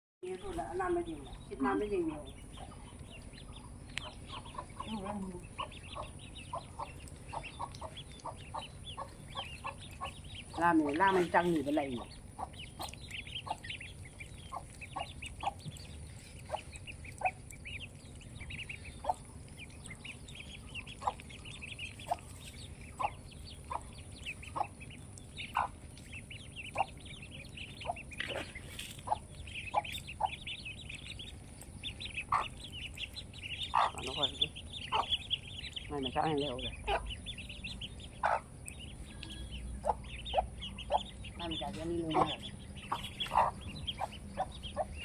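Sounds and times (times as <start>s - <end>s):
ducklings peeping: 0.2s - 45.0s.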